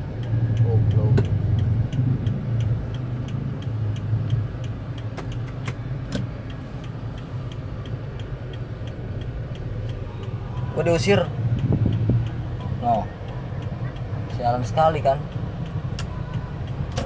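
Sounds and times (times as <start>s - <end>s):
car engine humming: 0.0s - 17.0s
indicator relay ticking: 0.0s - 17.0s
sharp clicks: 0.2s - 14.1s.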